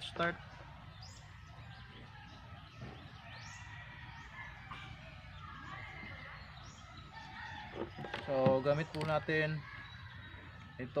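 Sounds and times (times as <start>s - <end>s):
birds chirping: 0.0s - 11.0s
low steady outdoor hum: 0.0s - 11.0s.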